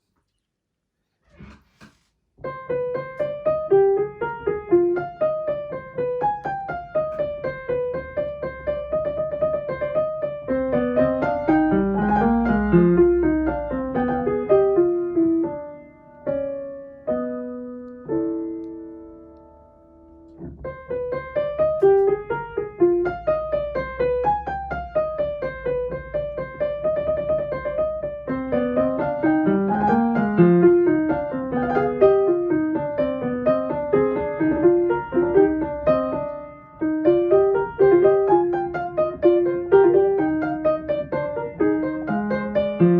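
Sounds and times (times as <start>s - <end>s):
piano playing broken chords: 2.5s - 42.9s.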